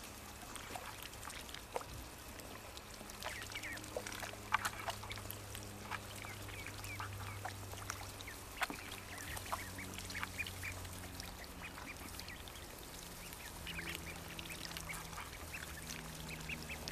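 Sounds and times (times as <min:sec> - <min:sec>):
ducklings peeping: 0:00.0 - 0:16.9
low steady hum: 0:00.0 - 0:16.9.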